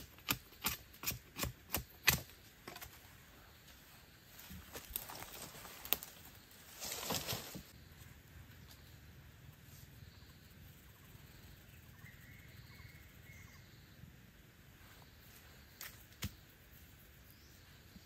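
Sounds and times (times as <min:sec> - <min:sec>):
forest ambience: 0:00.0 - 0:18.0.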